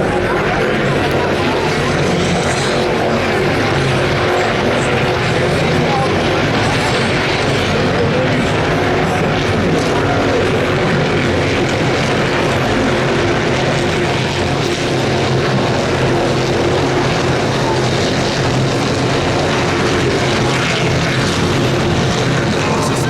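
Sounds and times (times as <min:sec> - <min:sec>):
race car engines droning: 0:00.0 - 0:23.0.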